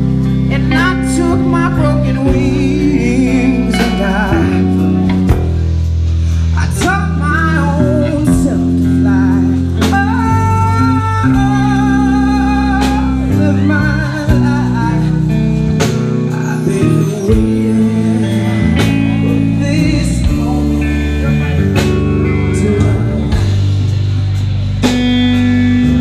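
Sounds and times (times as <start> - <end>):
person singing: 0.0 - 5.8, 6.4 - 26.0
blues band playing live: 0.0 - 26.0
electric bass: 0.0 - 26.0.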